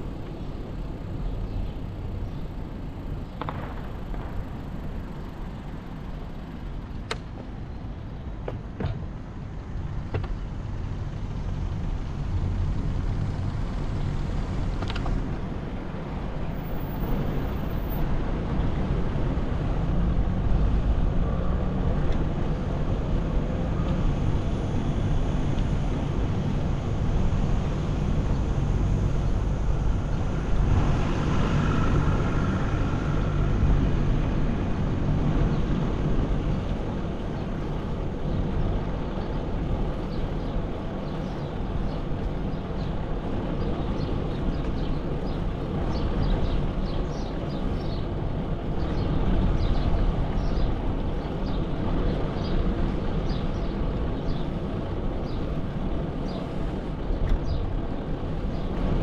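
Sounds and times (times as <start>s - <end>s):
wind and road noise rumble: 0.0s - 59.0s.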